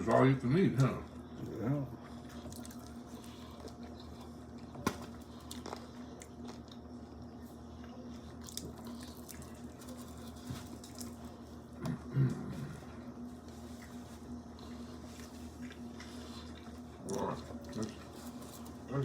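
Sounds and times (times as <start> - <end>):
faint steady hum: 0.0 - 19.0
person chewing food: 0.8 - 18.9.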